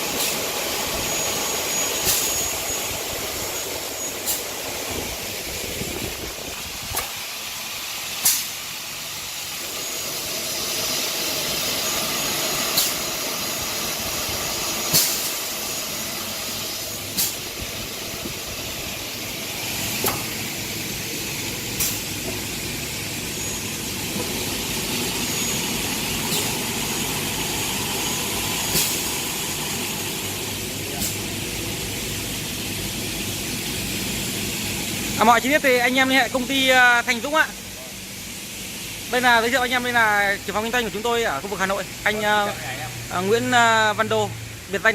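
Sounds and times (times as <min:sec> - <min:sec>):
machine hum and hiss: 0:00.0 - 0:44.9.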